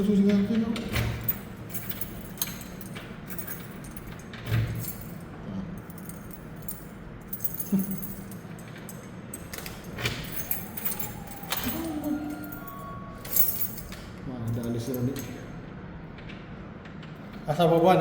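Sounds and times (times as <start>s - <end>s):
keys jingling in a door lock: 0.0s - 15.6s.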